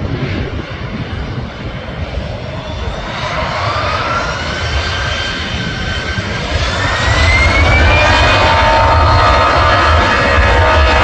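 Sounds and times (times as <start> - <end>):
jet engines running: 0.0 - 11.0
low rumble: 0.0 - 11.0
engine whine rising in pitch: 0.2 - 11.0.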